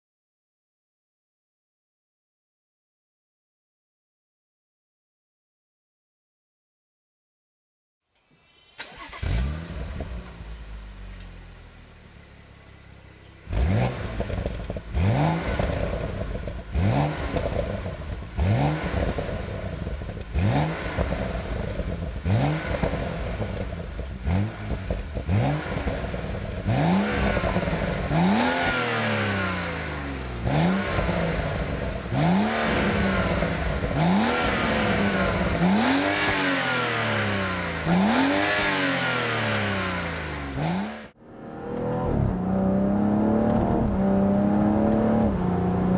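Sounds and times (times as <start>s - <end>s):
car engine revving: 8.8s - 45.9s.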